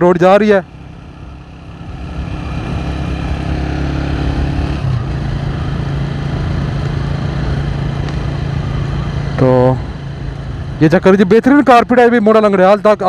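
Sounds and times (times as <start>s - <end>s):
road noise: 0.0s - 13.0s
vehicle engine running: 0.0s - 13.0s.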